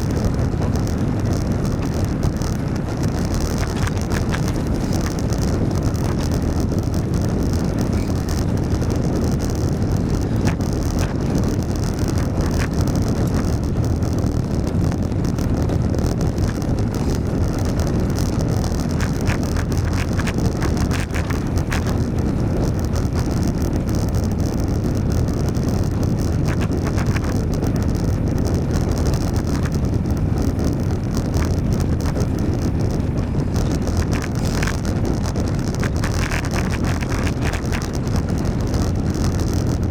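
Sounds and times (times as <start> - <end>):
faint clicks: 0.0 - 39.9
road and traffic noise: 0.0 - 39.9
wind rushing over microphone: 0.0 - 39.9.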